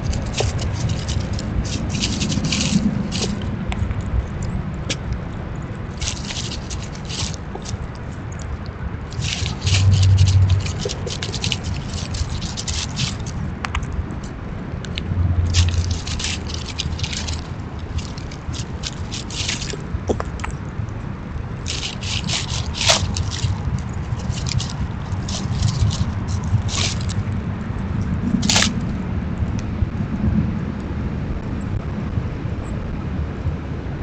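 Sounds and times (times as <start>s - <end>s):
squirrel rustling in dry leaves: 0.0s - 29.0s
low rumble: 0.0s - 34.0s.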